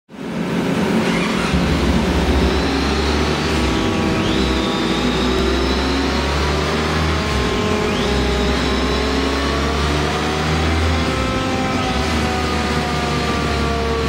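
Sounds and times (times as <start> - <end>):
motorcycle engine on dynamometer: 0.1 - 14.0
high whine: 0.2 - 14.0.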